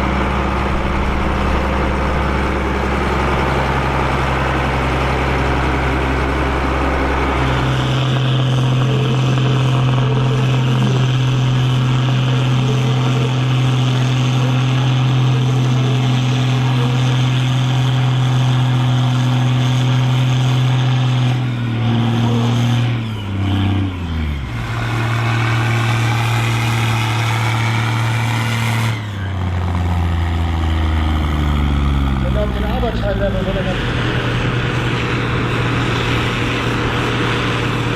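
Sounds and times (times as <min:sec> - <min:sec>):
tractor diesel engine running hard: 0:00.0 - 0:37.9.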